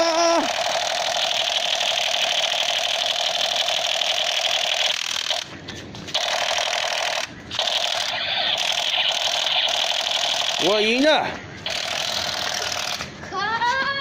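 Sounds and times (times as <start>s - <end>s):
toy laser gun rapid-fire buzz: 0.0s - 5.5s, 6.1s - 13.1s.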